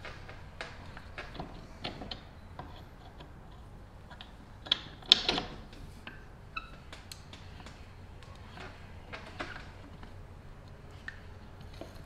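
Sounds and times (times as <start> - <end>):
metal clicks and ticks: 0.0 - 12.0.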